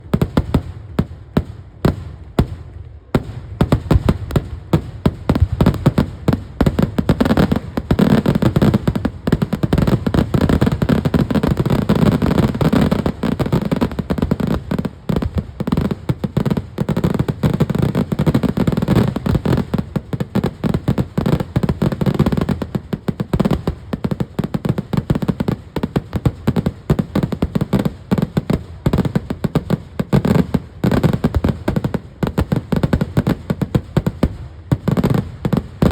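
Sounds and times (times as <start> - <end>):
rapid fireworks bangs: 0.0 - 35.9.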